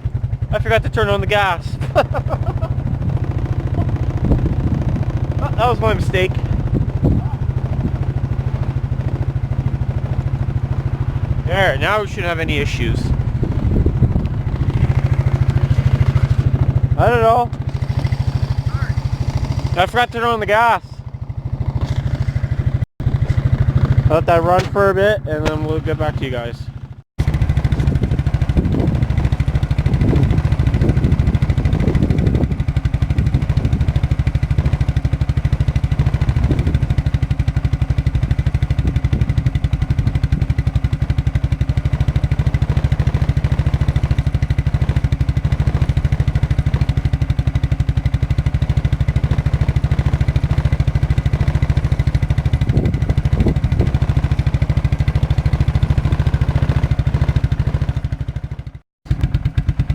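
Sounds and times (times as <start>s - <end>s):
single-cylinder engine idling: 0.0s - 59.9s.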